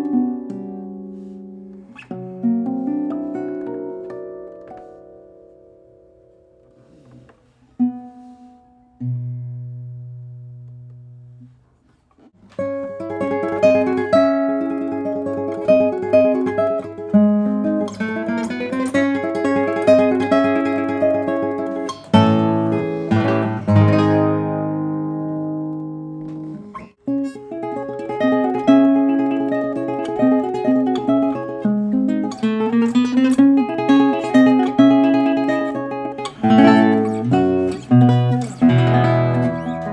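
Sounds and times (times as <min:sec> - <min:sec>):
classical guitar fingerpicking: 0:00.0 - 0:39.9.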